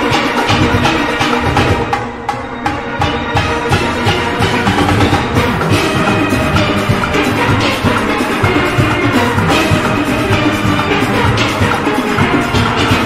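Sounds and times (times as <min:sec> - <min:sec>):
drums and percussion beat: 0:00.0 - 0:13.0
steelpans playing chords: 0:00.0 - 0:13.0.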